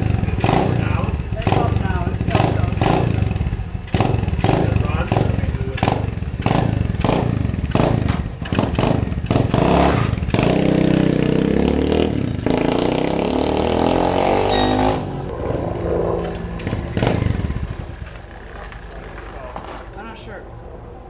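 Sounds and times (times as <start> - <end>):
motorbike engine running unevenly: 0.0 - 13.1, 15.8 - 19.8.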